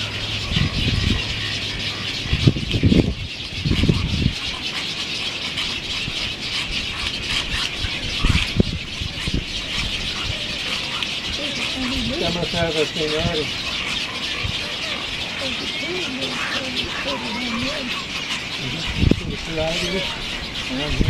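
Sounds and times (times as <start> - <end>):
waterbird colony chatter: 0.0 - 21.0.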